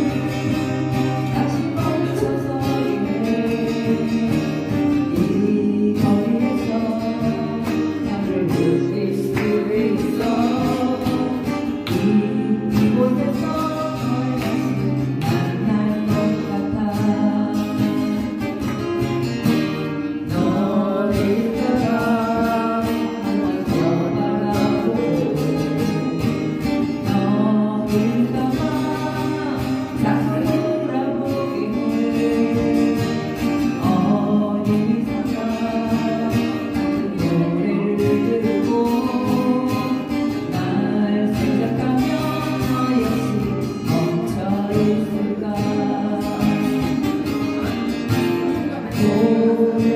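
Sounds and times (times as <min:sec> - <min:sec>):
person singing: 0:00.0 - 0:19.3, 0:20.1 - 0:49.9
acoustic guitar: 0:00.0 - 0:49.9.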